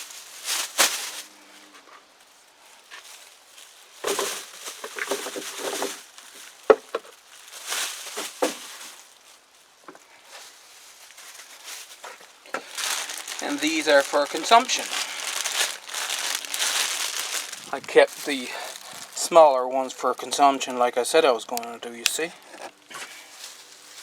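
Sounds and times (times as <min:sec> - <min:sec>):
papery rustling of garlic bulbs: 0:00.0 - 0:24.0.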